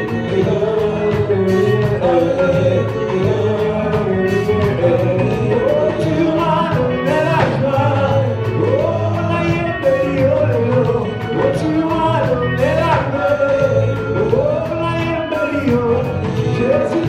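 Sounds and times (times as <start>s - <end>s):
full band with drums and bass: 0.0s - 17.0s
person singing: 0.0s - 17.0s.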